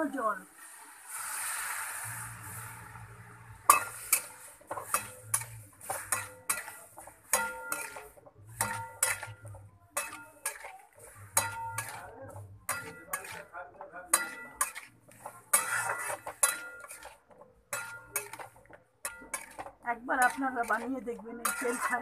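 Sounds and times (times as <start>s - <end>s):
spatula scraping a pan: 3.7s - 22.0s.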